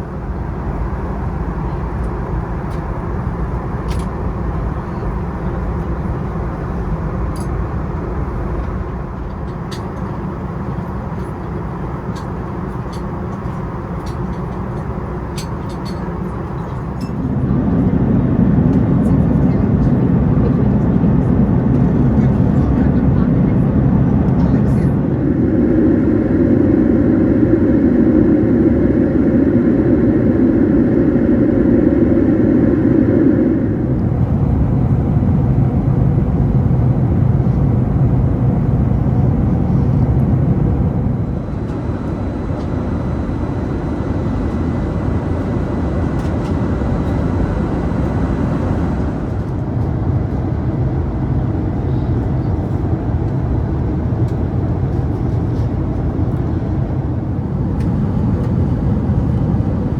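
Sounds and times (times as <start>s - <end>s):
aircraft cabin engine roar: 0.0s - 59.9s.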